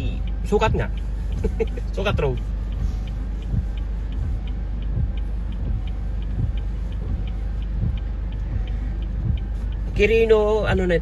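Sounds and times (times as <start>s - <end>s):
low car rumble: 0.0s - 11.0s
turn signal ticking: 0.0s - 11.0s.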